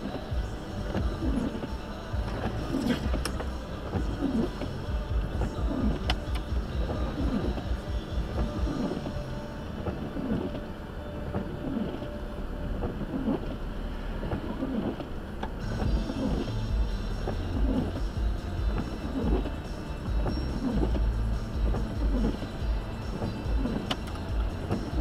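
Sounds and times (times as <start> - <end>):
car road rumble: 0.0 - 25.0.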